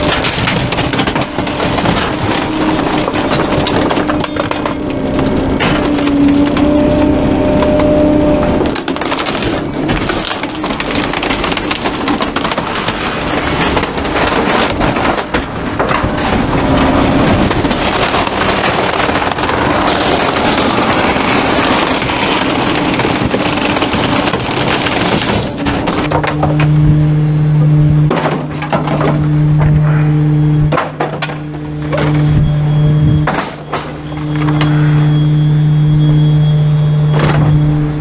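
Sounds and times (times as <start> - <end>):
junk crackling being crushed: 0.0 - 35.2, 37.0 - 38.0
hydraulic and engine hum: 0.0 - 38.0.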